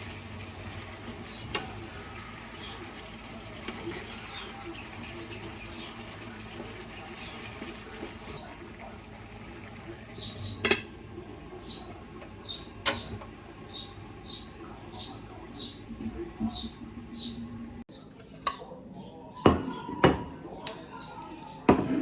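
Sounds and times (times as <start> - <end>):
water simmering: 0.0 - 17.9.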